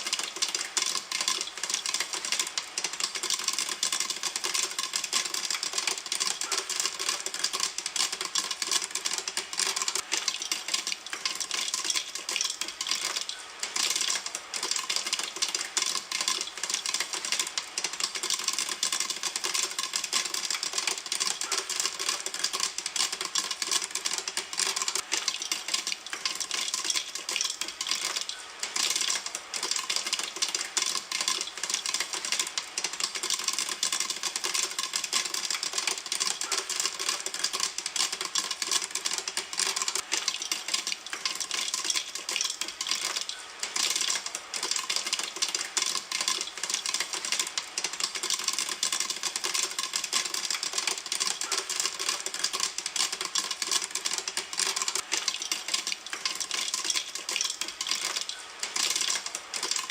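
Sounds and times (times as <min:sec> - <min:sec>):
popcorn popping in a pan: 0:00.0 - 0:59.9.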